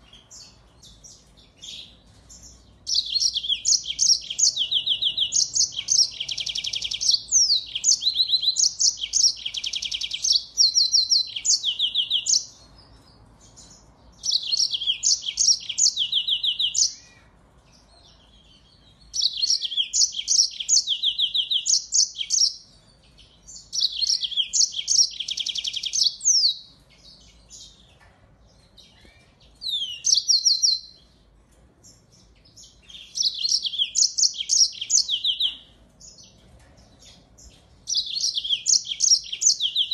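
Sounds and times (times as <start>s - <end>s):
finch singing trills: 0.0s - 31.2s, 31.8s - 39.9s.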